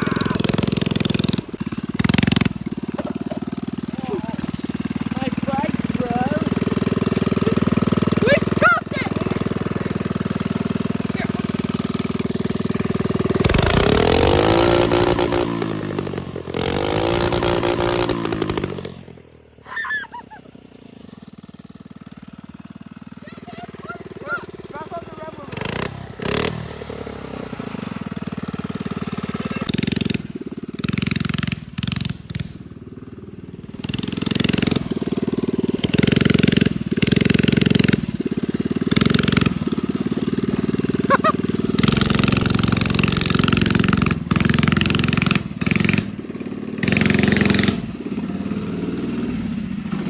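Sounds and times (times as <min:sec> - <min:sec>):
mini bike engine revving: 0:00.0 - 0:50.0.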